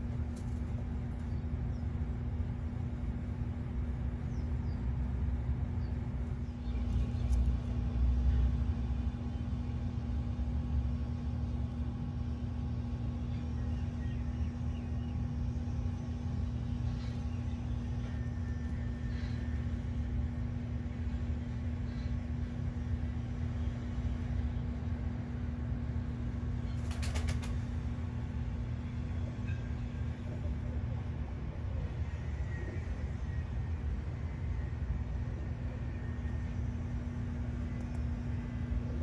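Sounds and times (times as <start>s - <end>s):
constant low hum: 0.0s - 39.0s.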